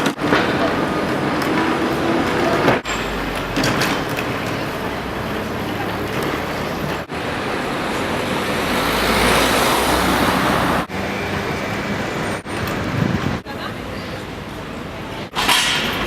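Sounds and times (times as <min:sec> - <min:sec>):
vehicle passing: 0:00.0 - 0:13.4
street traffic noise: 0:00.0 - 0:16.0.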